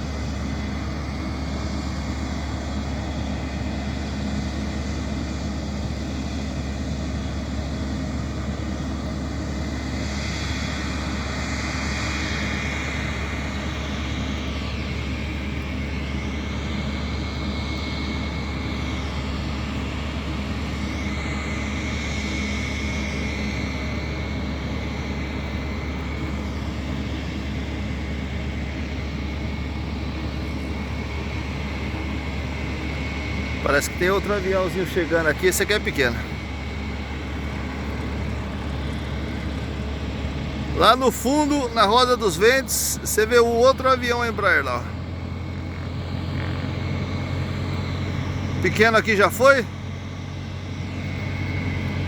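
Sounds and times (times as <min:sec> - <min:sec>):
aircraft engines droning: 0:00.0 - 0:52.0.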